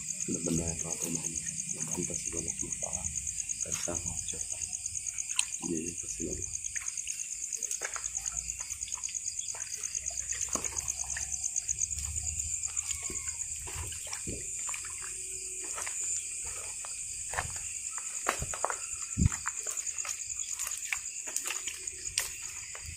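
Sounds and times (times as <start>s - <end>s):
crickets trilling: 0.0s - 22.9s.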